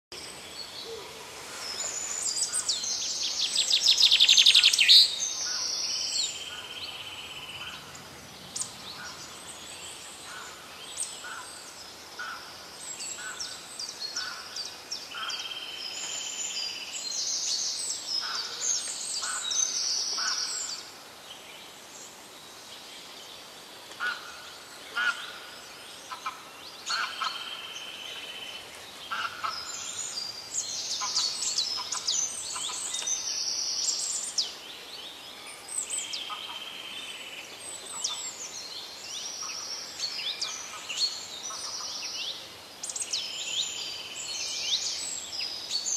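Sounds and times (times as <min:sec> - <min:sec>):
birds chirping: 0:00.1 - 0:45.9.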